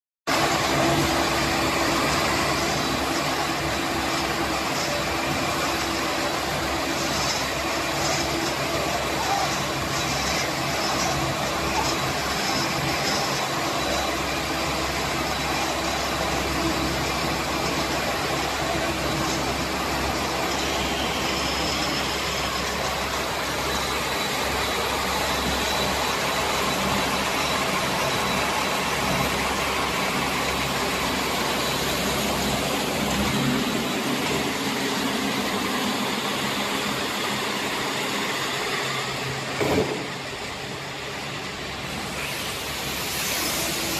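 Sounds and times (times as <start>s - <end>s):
baling machinery running: 0.3s - 43.9s.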